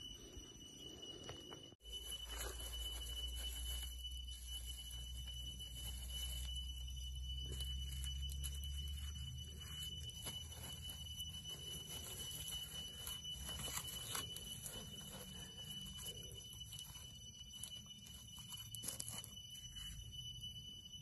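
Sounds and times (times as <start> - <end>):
high-pitched ringing tone: 0.0 - 21.0
green shoots rustling: 1.8 - 20.1.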